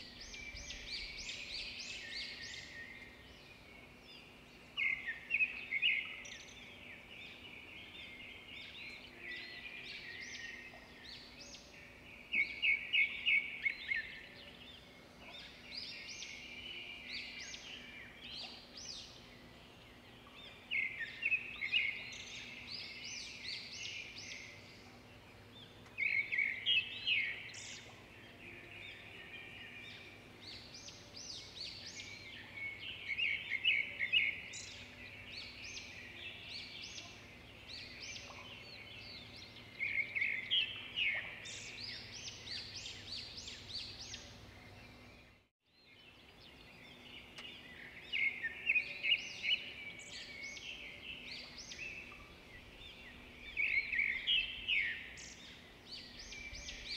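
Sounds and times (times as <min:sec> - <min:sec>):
birds chirping and twittering: 0:00.0 - 0:56.9.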